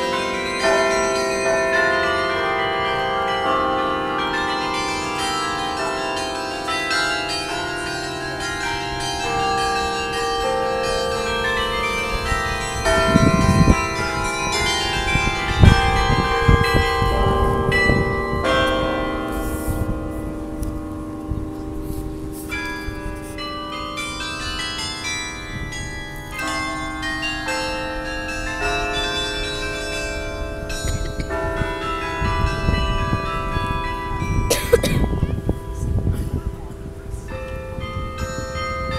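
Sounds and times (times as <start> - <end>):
carillon bells playing a tune: 0.0 - 38.9.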